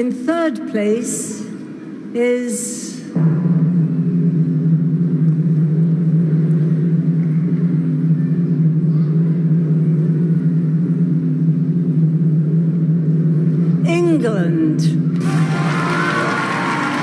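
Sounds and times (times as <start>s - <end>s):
low suspense music drone: 0.0s - 17.0s.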